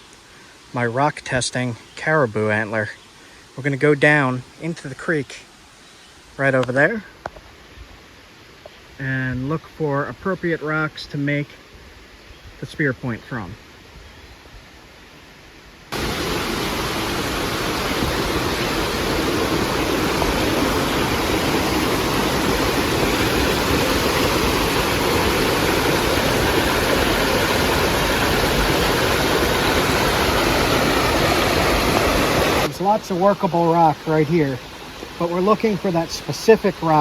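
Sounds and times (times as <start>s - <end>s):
creek water rushing: 0.0s - 37.0s.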